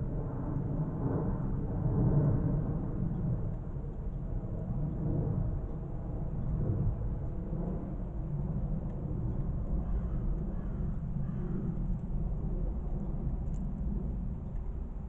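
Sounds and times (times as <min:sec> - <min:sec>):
low uneven outdoor rumble: 0:00.0 - 0:15.0.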